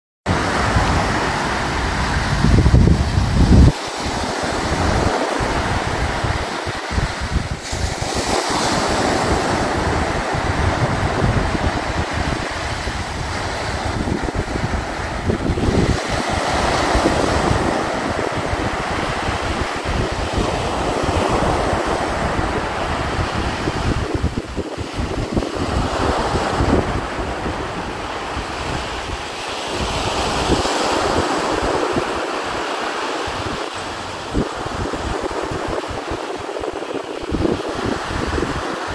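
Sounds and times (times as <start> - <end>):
sea surf breaking on a beach: 0.3 - 38.9
wind on microphone: 0.3 - 38.9.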